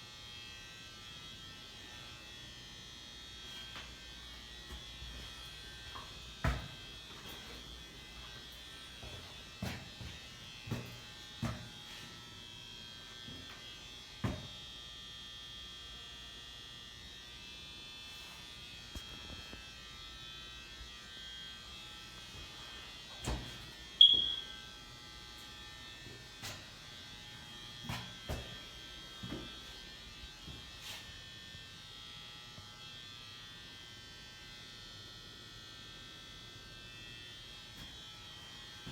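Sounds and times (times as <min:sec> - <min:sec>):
high electrical whine and buzz: 0:00.0 - 0:38.9.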